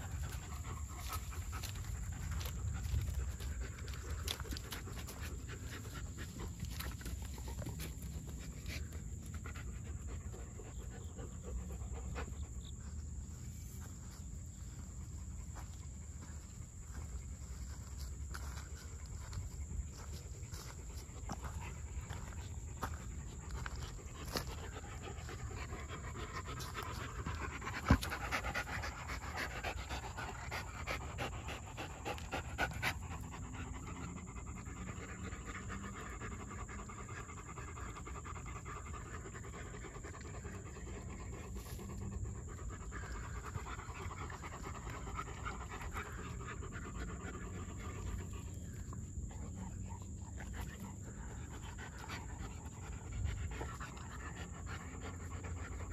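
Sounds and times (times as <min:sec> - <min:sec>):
dogs panting: 0:00.0 - 0:55.9.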